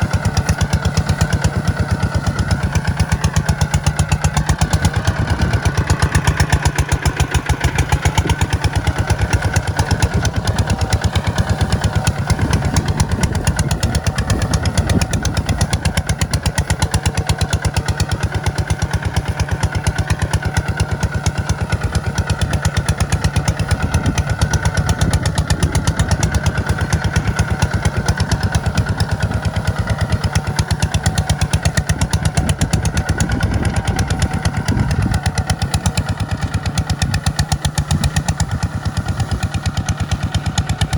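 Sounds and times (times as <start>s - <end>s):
tractor engine chugging: 0.0s - 40.9s.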